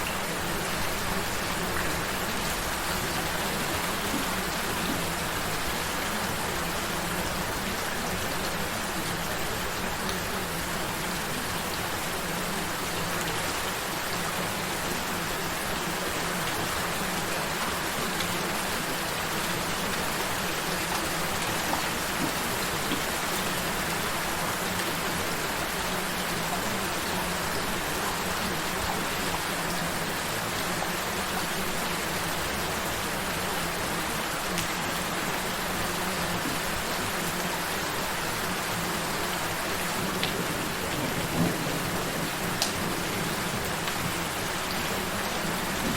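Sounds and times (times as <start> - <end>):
gentle rain falling: 0.0 - 45.9.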